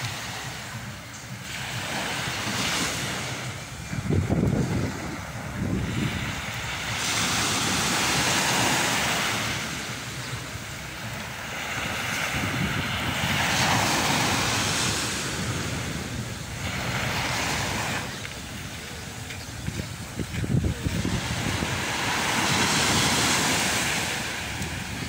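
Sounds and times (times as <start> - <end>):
waves washing onto a beach: 0.0 - 25.0
wind rumbling on microphone: 0.0 - 25.0.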